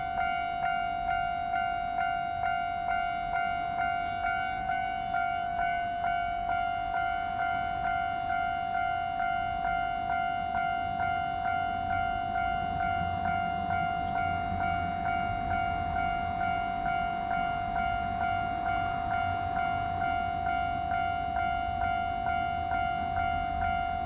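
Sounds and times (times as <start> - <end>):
level crossing alarm bell: 0.0 - 24.0.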